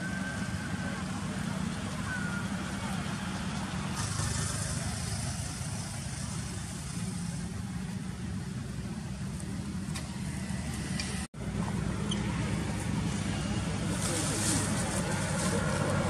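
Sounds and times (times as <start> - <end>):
low outdoor rumble with hiss: 0.0 - 16.0.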